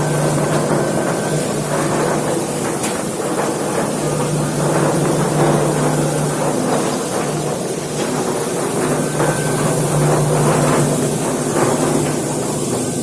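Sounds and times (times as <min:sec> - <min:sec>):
motor humming with rushing noise: 0:00.0 - 0:13.0.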